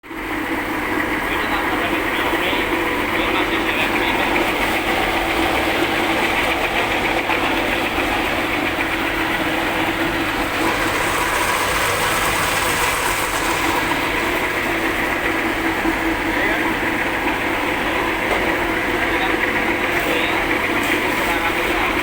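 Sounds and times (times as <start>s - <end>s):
machine running steadily: 0.1s - 22.0s.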